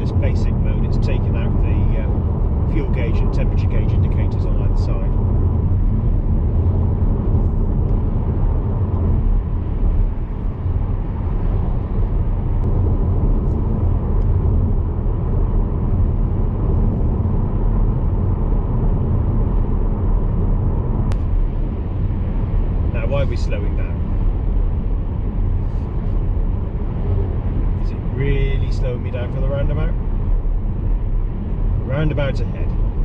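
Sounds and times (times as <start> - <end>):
car engine hum: 0.0 - 33.0
road and tyre rumble: 0.0 - 33.0.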